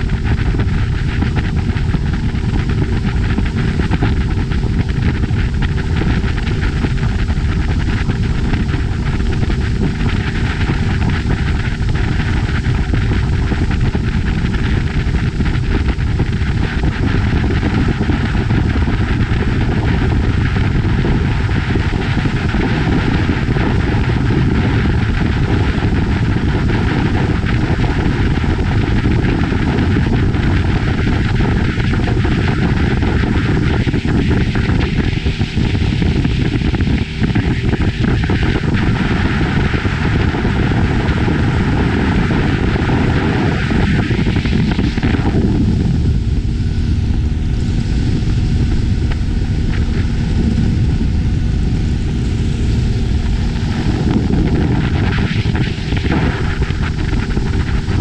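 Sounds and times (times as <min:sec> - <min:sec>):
motorboat engine drone: 0:00.0 - 0:58.0
wind rushing on microphone: 0:00.0 - 0:58.0.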